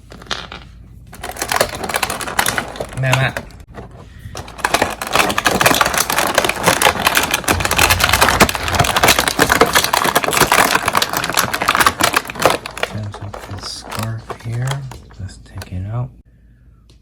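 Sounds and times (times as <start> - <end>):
plastic packaging crinkling: 1.1 - 15.7.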